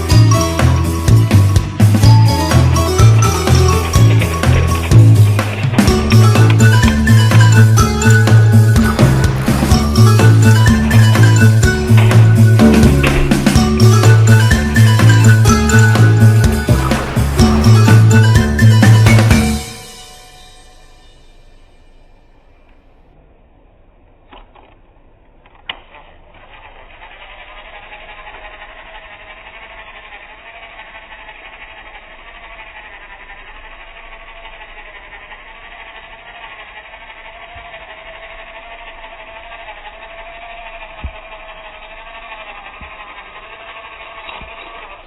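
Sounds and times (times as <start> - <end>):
toy train motor whining: 0.0 - 22.8, 25.6 - 45.0.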